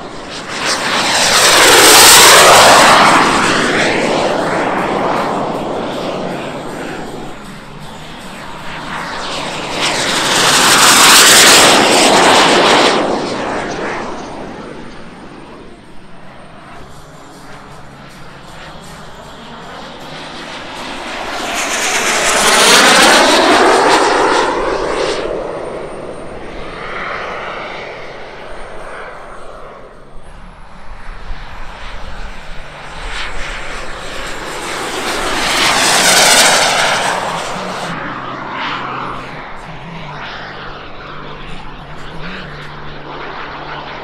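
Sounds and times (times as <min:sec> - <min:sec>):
jet turbine whine: 0:00.0 - 0:44.0.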